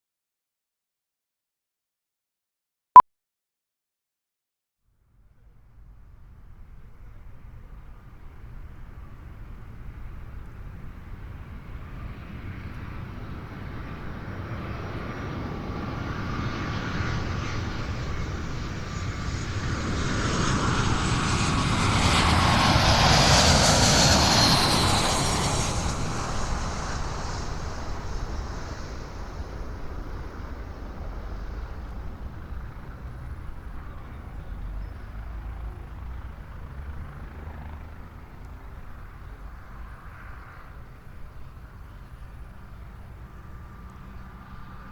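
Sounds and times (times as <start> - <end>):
airliner passing low overhead: 5.4 - 44.9.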